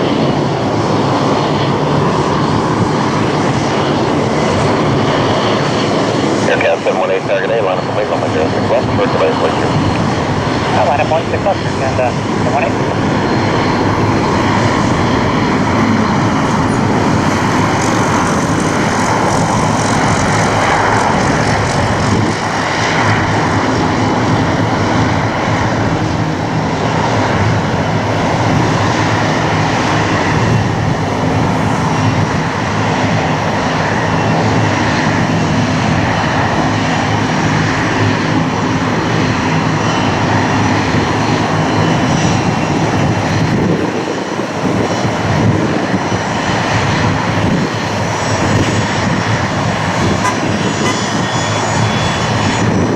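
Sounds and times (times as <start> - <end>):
jet engine noise: 0.0 - 52.9.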